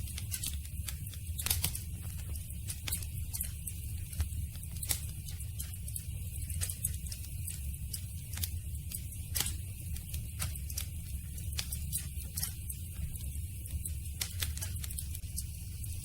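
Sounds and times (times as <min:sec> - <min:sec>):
campfire wood crackling: 0:00.0 - 0:16.0.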